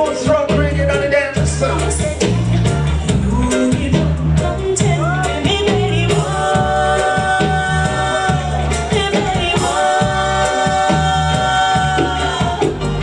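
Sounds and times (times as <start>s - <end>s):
reggae dub music on sound system: 0.0s - 13.0s.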